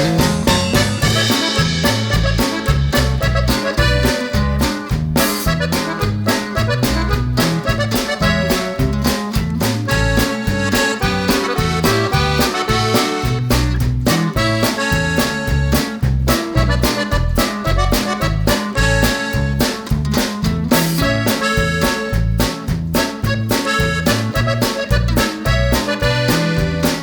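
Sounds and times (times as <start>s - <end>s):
accordion-like lead: 0.0s - 27.0s
bouncing bass line: 0.0s - 27.0s
upbeat instrumental music: 0.0s - 27.0s.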